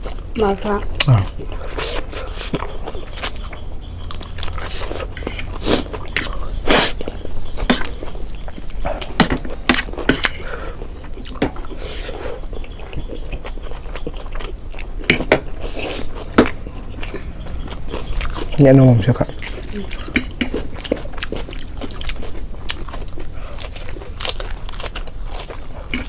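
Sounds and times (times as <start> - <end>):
chewing and biting food: 0.0 - 26.0
sharp eating smacks and clicks: 0.0 - 26.0.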